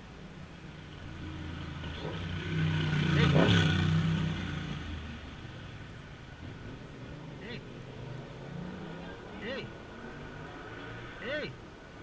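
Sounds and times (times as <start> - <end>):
motor vehicle passing by: 0.8 - 5.8, 6.5 - 11.3.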